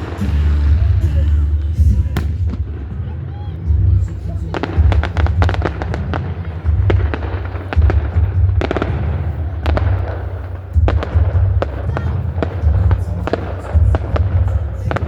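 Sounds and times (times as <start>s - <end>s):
fireworks bangs and crackles: 0.0s - 15.0s
low pulsing boom: 0.0s - 15.0s.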